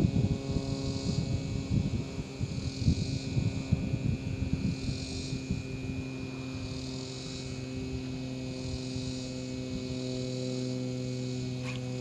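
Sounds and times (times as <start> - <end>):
high insect drone: 0.0 - 12.0
steady hum with overtones: 0.0 - 12.0.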